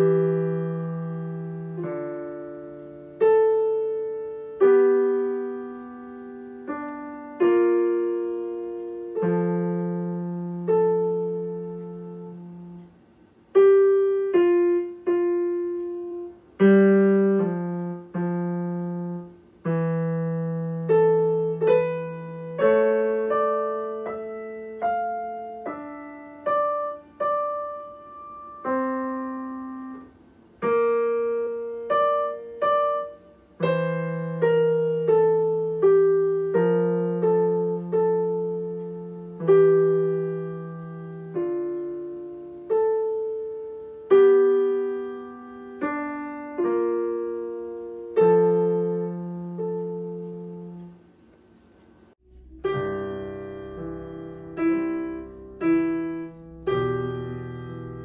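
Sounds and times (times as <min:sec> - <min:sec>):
digital piano melody: 0:00.0 - 0:58.0.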